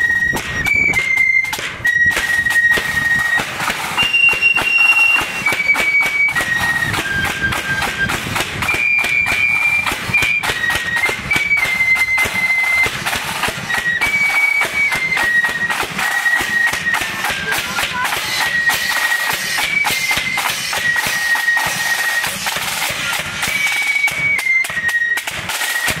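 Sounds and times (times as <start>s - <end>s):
flutes playing a tune: 0.0s - 26.0s
marching drums: 0.0s - 26.0s.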